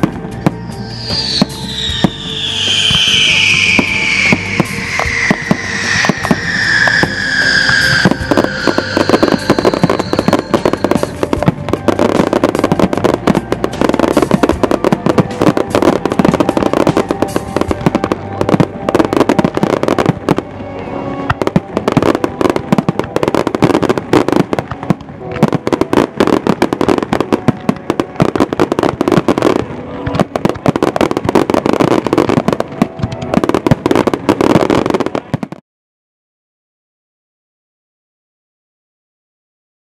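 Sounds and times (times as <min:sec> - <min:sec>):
fireworks bangs and crackles: 0:00.0 - 0:35.6.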